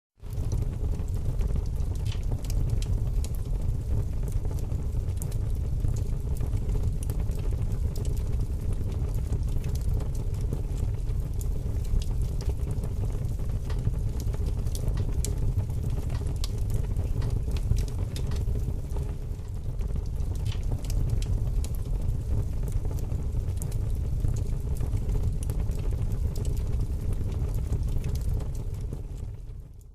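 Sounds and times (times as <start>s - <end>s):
fire crackling and popping: 0.2s - 29.9s
fire flames rumbling: 0.2s - 29.9s.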